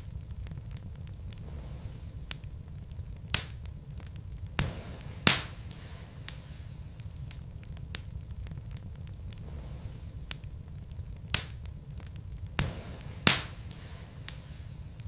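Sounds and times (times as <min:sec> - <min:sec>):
fire burning in a fireplace: 0:00.0 - 0:15.0
loud pops of burning wood: 0:00.0 - 0:15.0.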